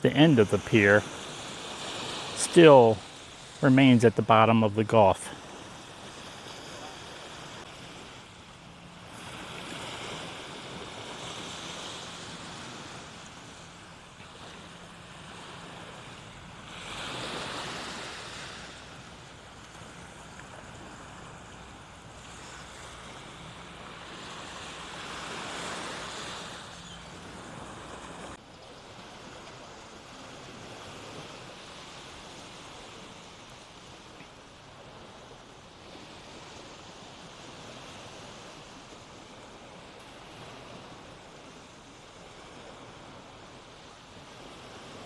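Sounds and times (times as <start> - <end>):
surf washing onto beach: 0.0 - 45.0.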